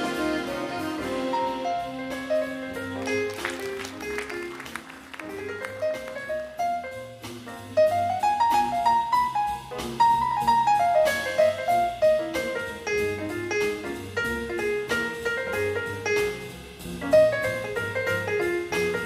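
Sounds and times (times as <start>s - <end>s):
big band jazz: 0.0s - 19.0s.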